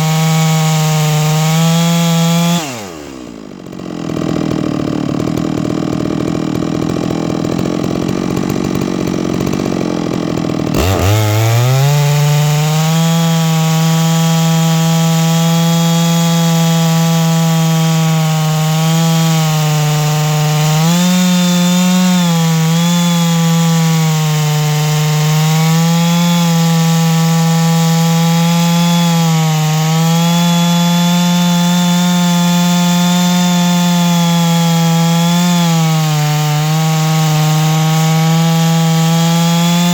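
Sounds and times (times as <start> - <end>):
chainsaw mill cutting log: 0.0 - 39.9.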